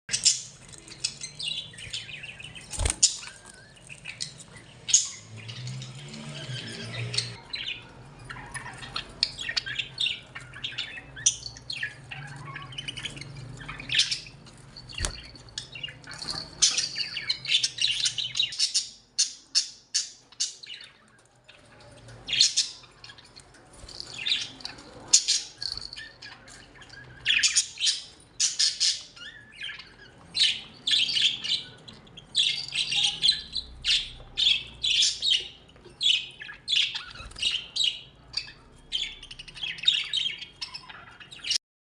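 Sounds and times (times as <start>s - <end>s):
budgerigars chirping and chattering: 0.1s - 41.6s.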